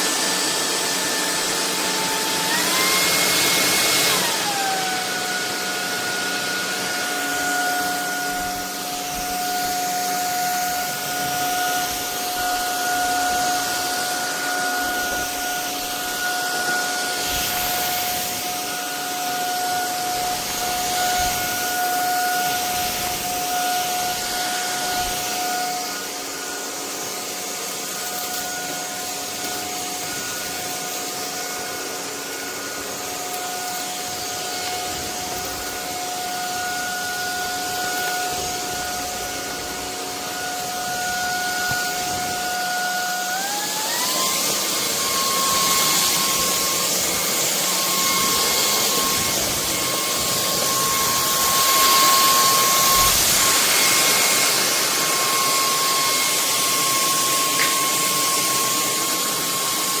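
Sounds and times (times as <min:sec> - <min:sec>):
stick vacuum motor whine: 0:00.0 - 1:00.0.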